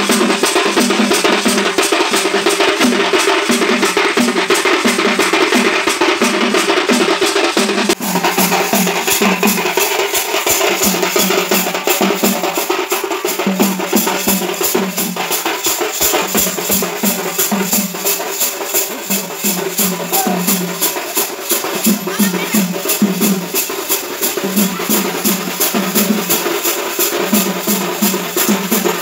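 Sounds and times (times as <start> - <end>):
high shaken percussion: 0.0 - 29.0.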